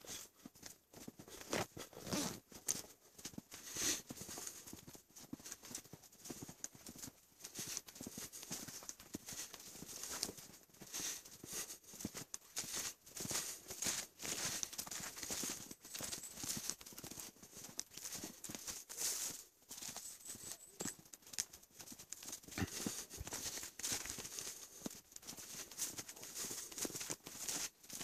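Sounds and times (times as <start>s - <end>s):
footsteps crunching through snow: 0.0s - 28.0s.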